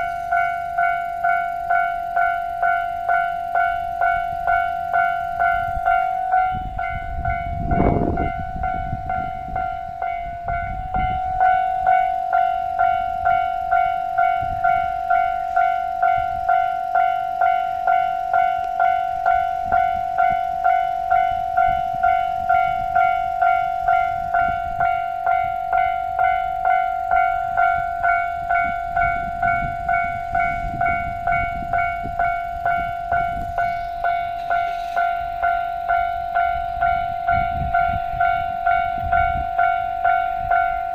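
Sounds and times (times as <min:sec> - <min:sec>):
electronic crossing bell ringing: 0:00.0 - 0:40.9.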